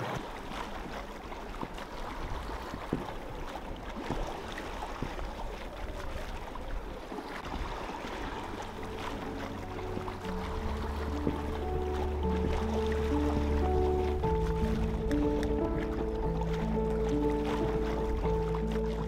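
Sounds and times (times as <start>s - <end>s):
water rushing along hull: 0.0s - 19.0s.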